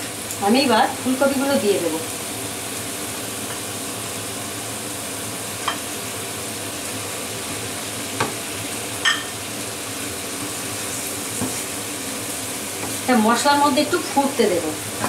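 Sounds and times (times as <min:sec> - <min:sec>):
gravy simmering with a hiss: 0:00.0 - 0:15.0.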